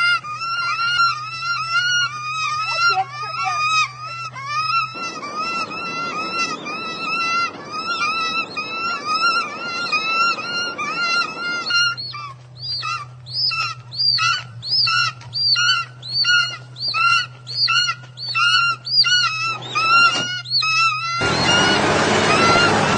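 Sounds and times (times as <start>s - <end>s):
animal high-pitched calls: 0.0s - 22.9s
steady low hum: 0.0s - 22.9s.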